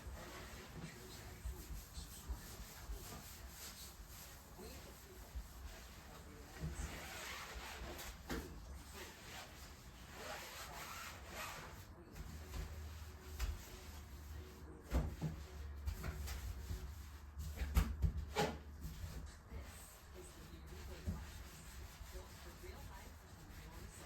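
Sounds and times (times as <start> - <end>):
rubbing on bathtub: 0.0 - 24.0.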